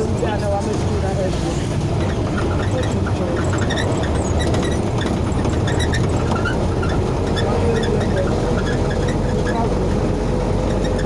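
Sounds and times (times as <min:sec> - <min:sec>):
faint street sounds: 0:00.0 - 0:11.0
vehicle engine and road noise: 0:00.0 - 0:11.0.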